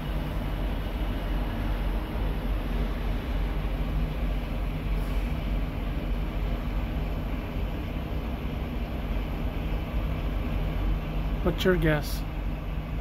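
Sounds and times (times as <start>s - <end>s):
faint steady hum tones: 0.0s - 13.0s
truck engine rumbling: 0.0s - 13.0s.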